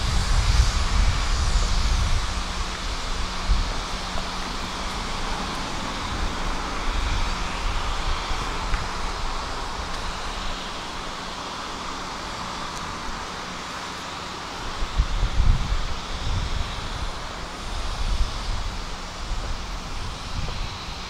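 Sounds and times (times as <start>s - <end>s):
distant traffic rumble: 0.0s - 21.0s.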